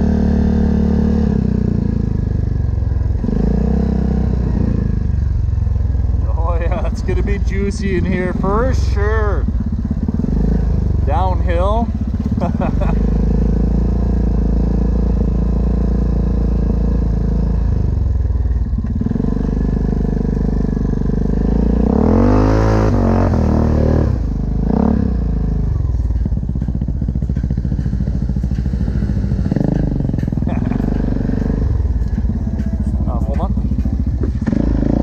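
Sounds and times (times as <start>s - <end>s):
atv engine running and revving: 0.0s - 35.0s.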